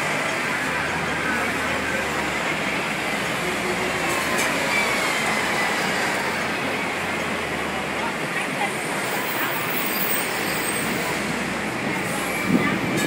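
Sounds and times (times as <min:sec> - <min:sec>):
trams rumbling on rails: 0:00.0 - 0:13.0.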